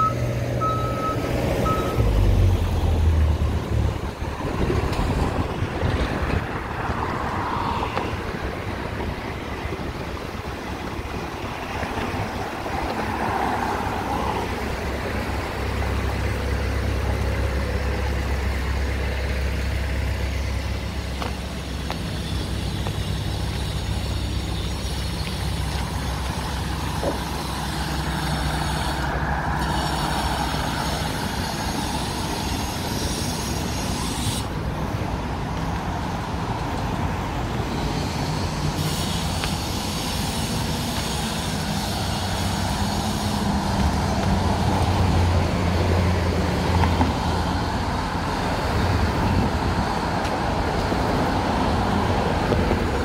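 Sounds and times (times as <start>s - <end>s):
cars and trucks passing: 0.0s - 53.0s.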